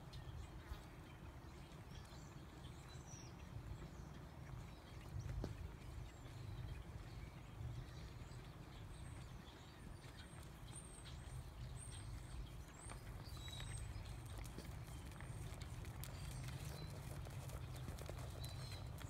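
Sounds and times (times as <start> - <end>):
hoofbeats on soft dirt: 0.0 - 19.0.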